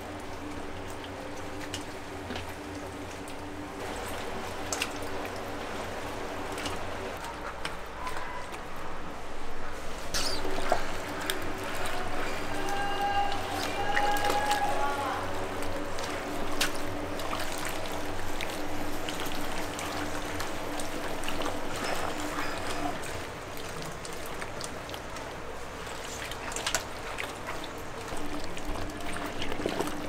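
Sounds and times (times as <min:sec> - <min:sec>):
wet squelching of mixing: 0:00.0 - 0:30.0.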